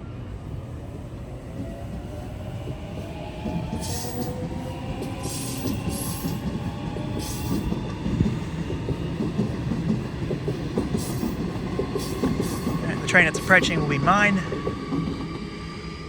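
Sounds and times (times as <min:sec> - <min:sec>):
train wheels rumbling on rail: 0:00.0 - 0:16.0
train motor whine: 0:00.9 - 0:14.1.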